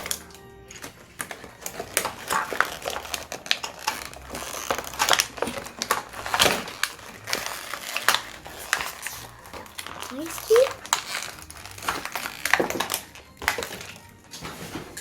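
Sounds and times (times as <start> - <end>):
plastic toy pieces clicking: 0.0 - 14.1
plastic packaging crinkling: 0.0 - 15.0.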